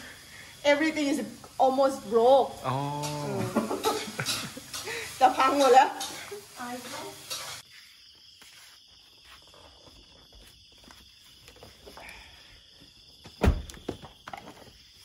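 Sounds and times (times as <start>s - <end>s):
night insects humming: 0.0s - 15.0s.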